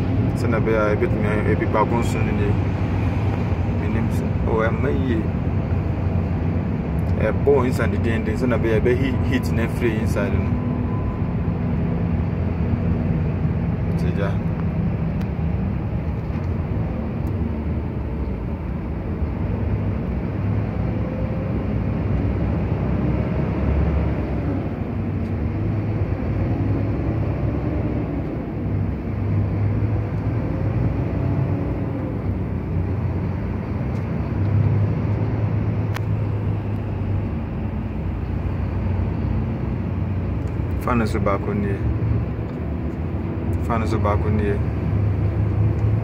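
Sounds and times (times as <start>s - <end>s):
road noise: 0.0s - 46.0s
truck engine droning: 0.0s - 46.0s.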